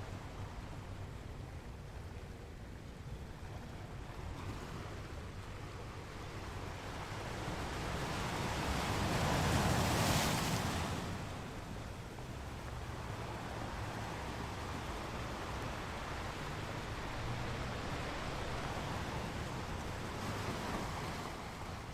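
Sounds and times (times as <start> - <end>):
low rumble of surf: 0.0 - 21.9.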